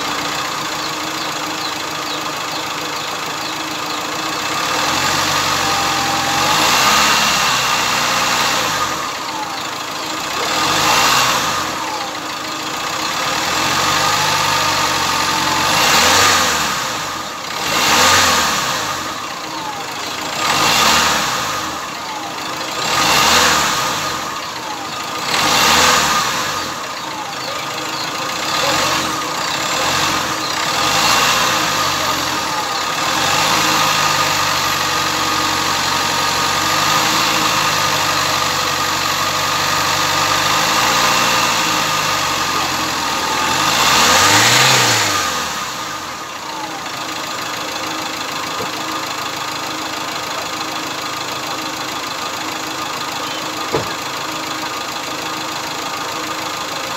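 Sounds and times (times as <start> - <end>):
car engine revving and idling: 0.0 - 56.9.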